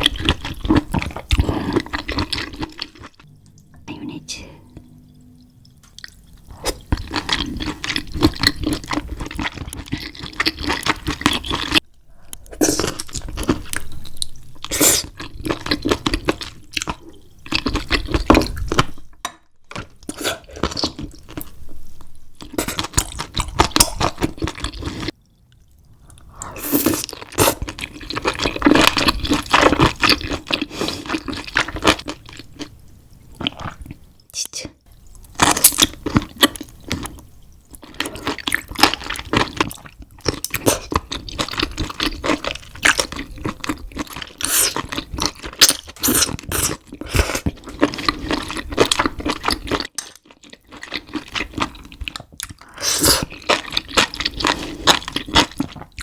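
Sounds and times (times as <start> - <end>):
wet squishing and slurping: 0.0 - 19.1, 19.7 - 21.6, 22.4 - 56.0.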